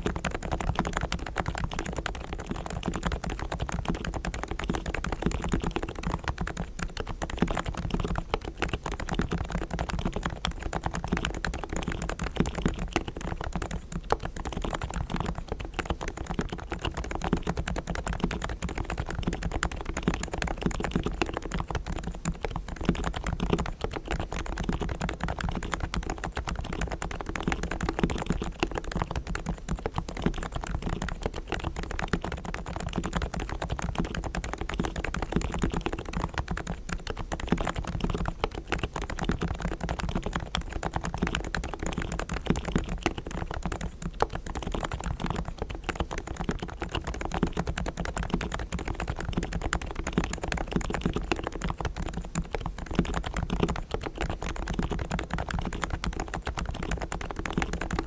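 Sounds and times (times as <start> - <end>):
keyboard typing: 0.0 - 58.0.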